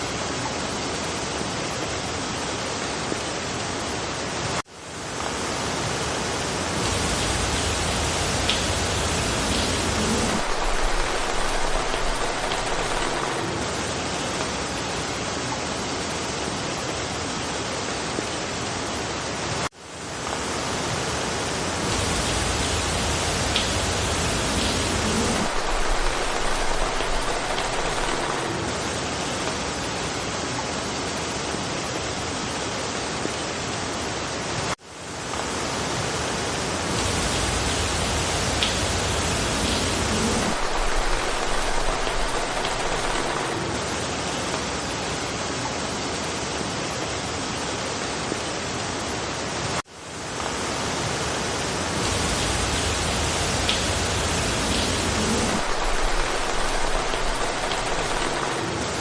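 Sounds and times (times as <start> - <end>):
rain falling through forest: 0.0 - 59.0.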